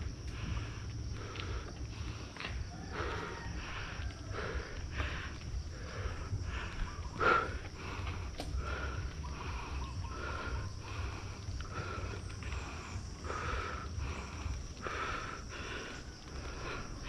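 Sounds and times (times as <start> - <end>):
cyclist breathing hard: 0.0 - 17.0
low rumble: 0.0 - 17.0.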